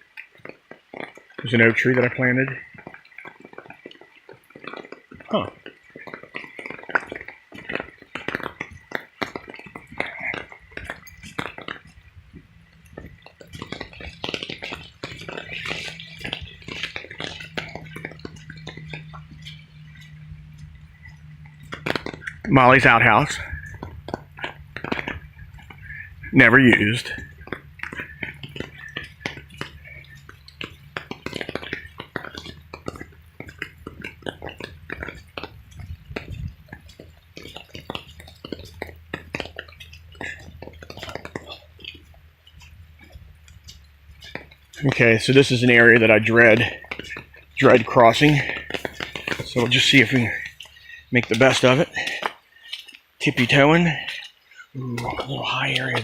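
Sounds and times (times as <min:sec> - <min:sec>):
raindrops tapping: 0:00.0 - 0:56.0
low steady hum: 0:01.2 - 0:56.0.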